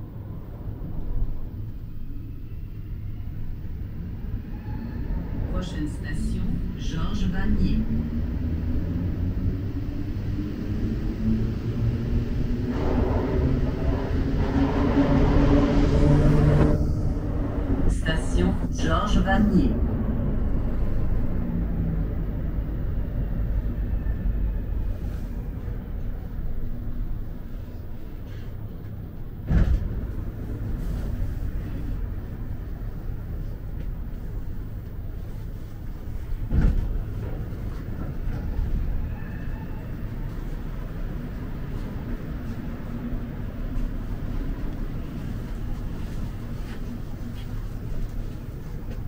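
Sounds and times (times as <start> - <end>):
metro train rumbling: 0.0 - 49.0.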